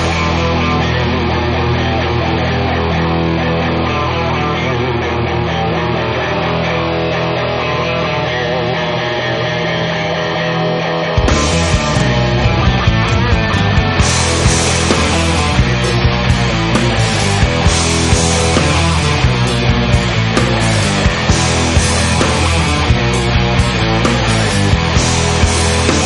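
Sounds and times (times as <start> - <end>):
drums: 0.0 - 26.0
rock guitar chords: 0.0 - 26.0.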